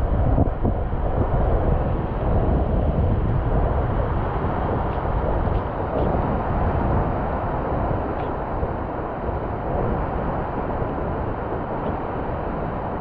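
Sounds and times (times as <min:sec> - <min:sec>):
wind buffeting microphone: 0:00.0 - 0:13.0
ocean surf: 0:00.1 - 0:13.0.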